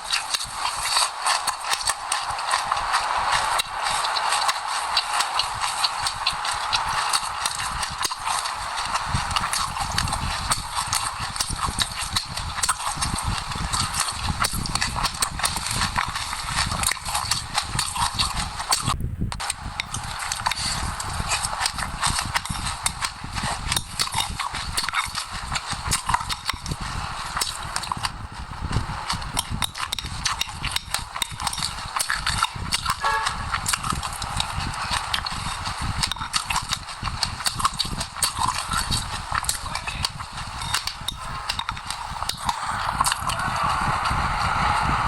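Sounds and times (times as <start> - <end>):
crunching of seeds while chewing: 0.0 - 45.0.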